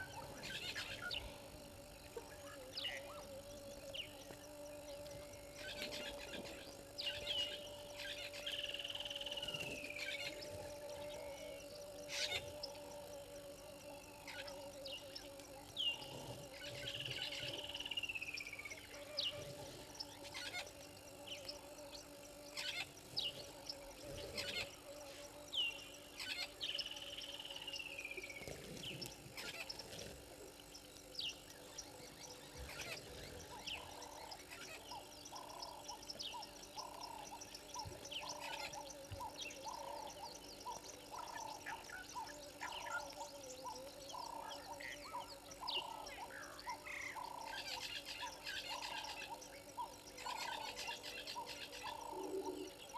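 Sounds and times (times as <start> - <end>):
regular pulsing animal call: 0.0 - 52.9.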